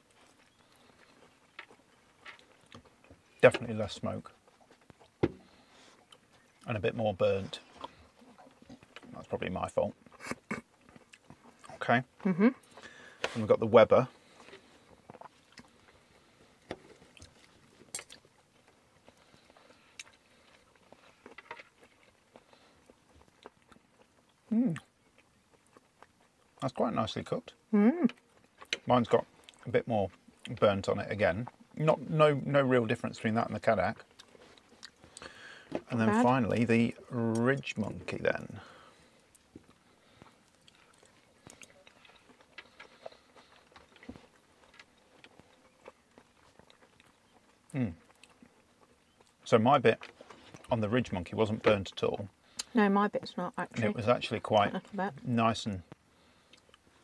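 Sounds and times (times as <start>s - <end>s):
chewing: 0.0s - 26.8s, 27.4s - 32.1s, 32.8s - 55.2s, 55.8s - 57.0s.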